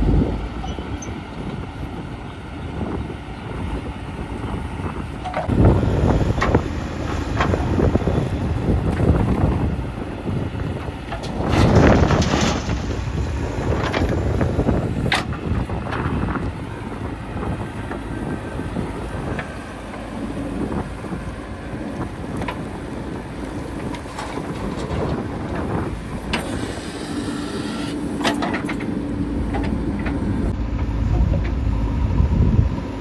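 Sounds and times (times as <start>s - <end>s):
backhoe diesel engine running: 0.0s - 33.0s.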